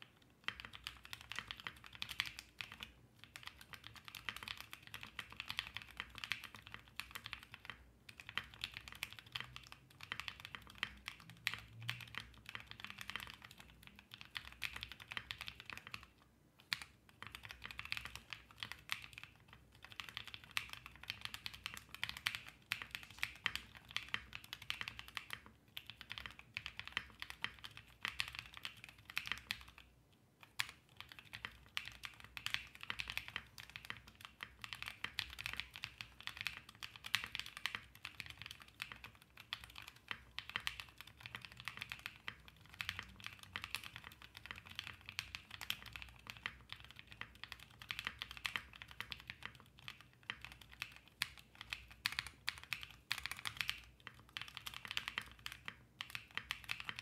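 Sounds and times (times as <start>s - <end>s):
fast mechanical keyboard typing: 0.0s - 57.0s.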